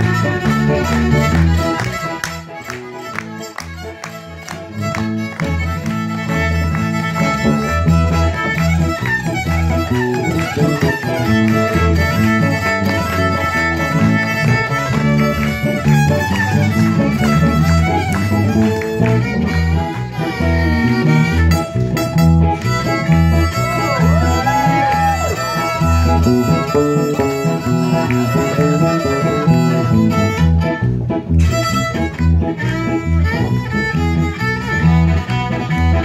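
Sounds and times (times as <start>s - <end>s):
country band playing: 0.0s - 36.0s
fiddle playing lead: 0.0s - 36.0s.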